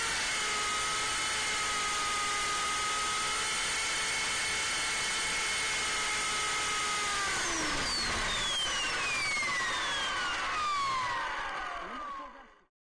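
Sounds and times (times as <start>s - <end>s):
helicopter motors and rotor whining: 0.0s - 12.7s.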